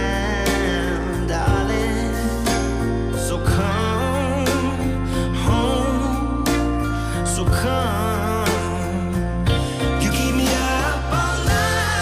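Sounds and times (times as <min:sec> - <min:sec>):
pop song with singing and bass: 0:00.0 - 0:12.0.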